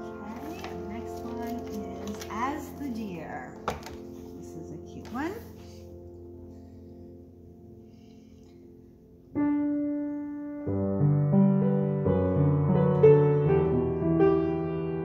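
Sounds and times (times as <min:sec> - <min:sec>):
solo piano playing hymn chords: 0:00.0 - 0:15.0.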